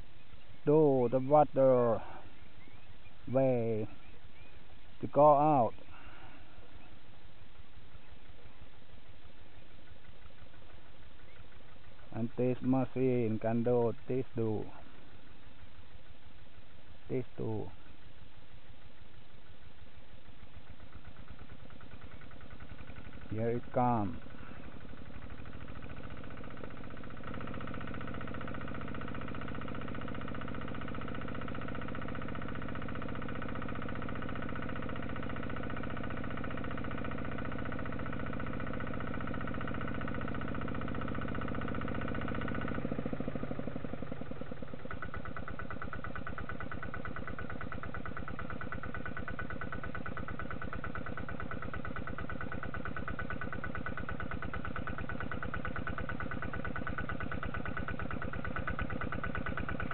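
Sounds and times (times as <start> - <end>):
small diesel engine chugging: 0.0 - 59.9.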